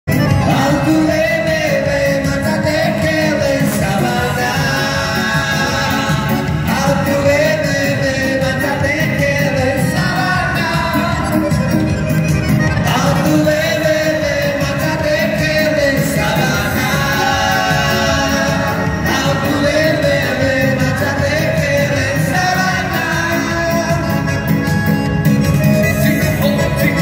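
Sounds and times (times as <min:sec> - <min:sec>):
electronic keyboard: 0:00.1 - 0:27.0
man singing into microphone: 0:00.1 - 0:27.0.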